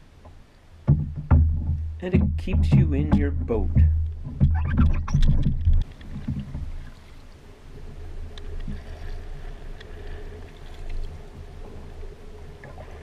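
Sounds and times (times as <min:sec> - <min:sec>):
water rushing along canoe hull: 0:00.0 - 0:13.0
wind rumbling on microphone: 0:00.0 - 0:13.0.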